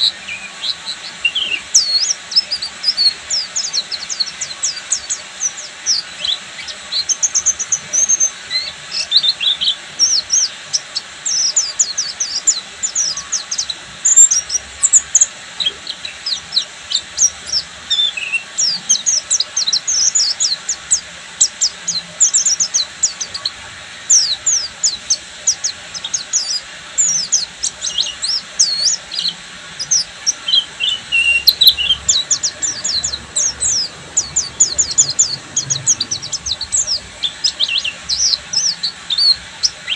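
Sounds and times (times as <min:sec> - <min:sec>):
bird twittering song: 0:00.0 - 0:39.9
lower bird trill: 0:00.0 - 0:39.9.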